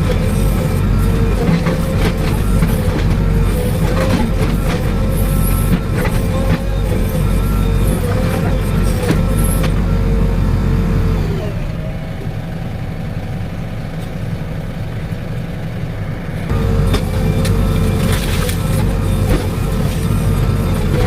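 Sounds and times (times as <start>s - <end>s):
hydraulic whine: 0.0s - 13.6s, 16.4s - 21.0s
heavy diesel engine under load: 0.0s - 21.0s.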